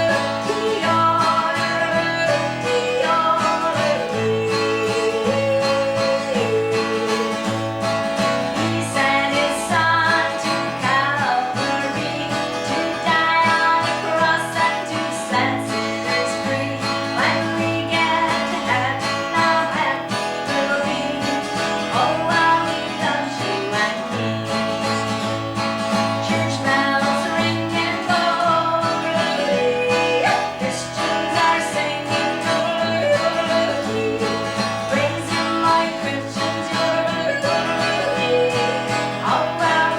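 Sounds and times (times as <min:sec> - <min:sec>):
acoustic guitar: 0:00.0 - 0:39.9
live country band music: 0:00.0 - 0:39.9.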